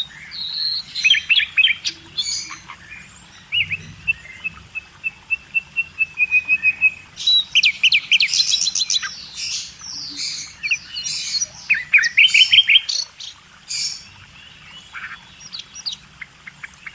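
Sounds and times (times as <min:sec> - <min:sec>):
harsh bird calls: 0:00.0 - 0:16.0
birds chirping: 0:00.0 - 0:16.9.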